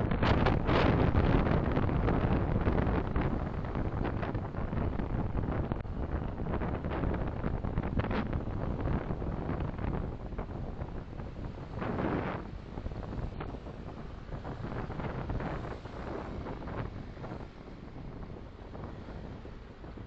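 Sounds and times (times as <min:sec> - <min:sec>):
car road noise: 0:00.0 - 0:20.0
wind noise: 0:00.0 - 0:20.0.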